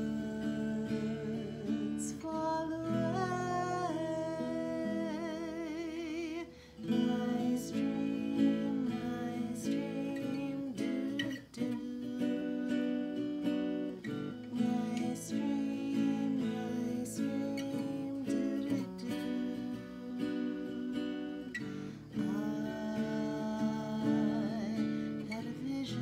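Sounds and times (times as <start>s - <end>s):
acoustic guitar strumming: 0.0s - 26.0s
woman singing: 0.0s - 26.0s.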